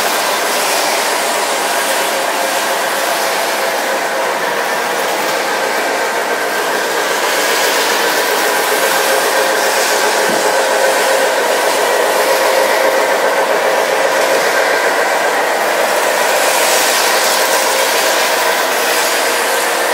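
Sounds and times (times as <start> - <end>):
model train motors whirring: 0.0 - 19.9
wheels rolling on track: 0.0 - 19.9.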